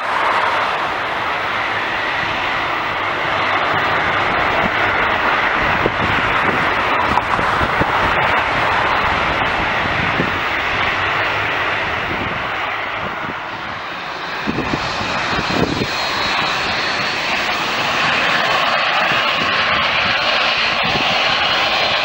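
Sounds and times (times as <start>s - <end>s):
faint high whine: 0.0s - 22.0s
jet engines rushing: 0.0s - 22.0s.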